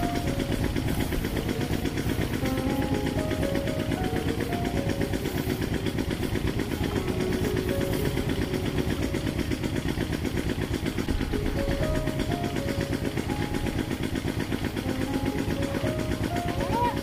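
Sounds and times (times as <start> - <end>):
faint melody: 0.0 - 17.0
small engine idling: 0.0 - 17.0.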